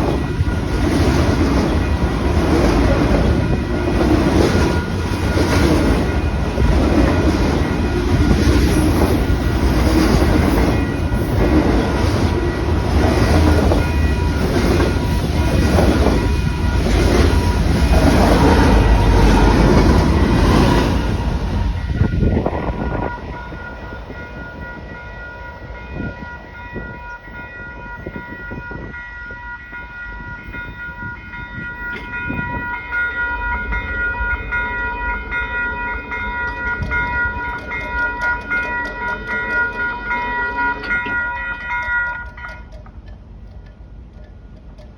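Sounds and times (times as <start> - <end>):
freight train cars rumbling: 0.0 - 44.9.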